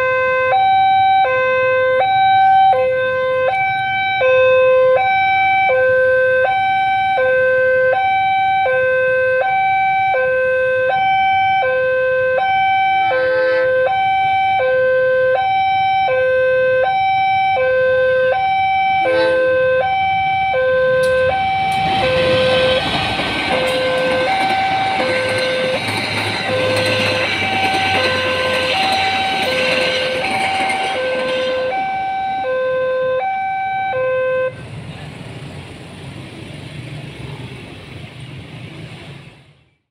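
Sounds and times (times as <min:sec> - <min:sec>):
passing train wheel and rail noise: 0:00.0 - 0:14.6, 0:18.4 - 0:39.9
level crossing two-tone alarm: 0:00.0 - 0:34.6.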